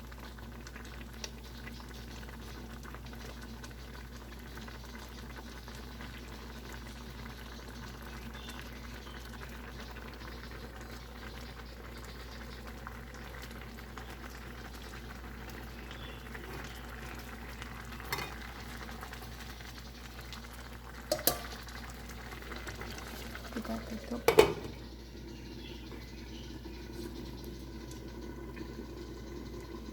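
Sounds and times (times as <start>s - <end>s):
porridge bubbling at the boil: 0.0s - 29.9s.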